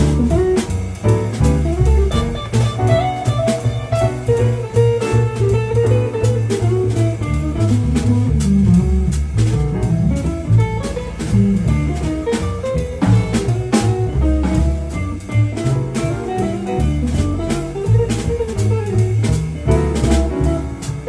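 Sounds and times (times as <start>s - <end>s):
drum kit cymbal strikes: 0.0s - 21.0s
plucked double bass: 0.0s - 21.0s.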